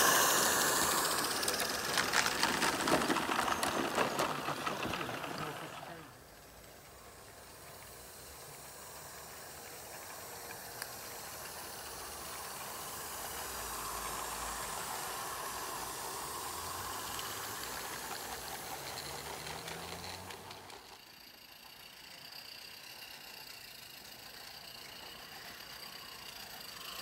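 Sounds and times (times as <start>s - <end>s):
steam locomotive hissing: 0.0s - 27.0s.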